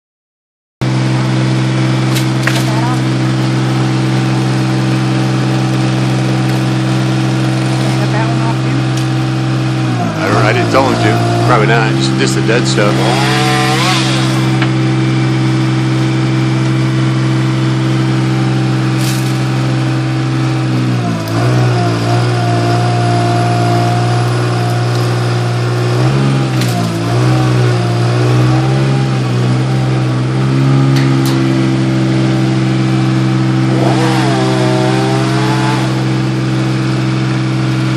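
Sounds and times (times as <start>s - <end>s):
truck engine running: 0.8s - 37.9s
chainsaw revving: 0.9s - 37.9s.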